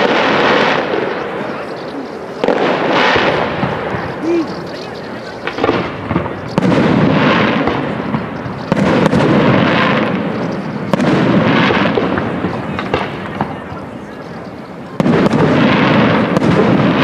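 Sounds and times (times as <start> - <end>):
sharp firework cracks: 0.0 - 13.9, 15.0 - 17.0
firework booms with rolling echo: 0.0 - 17.0.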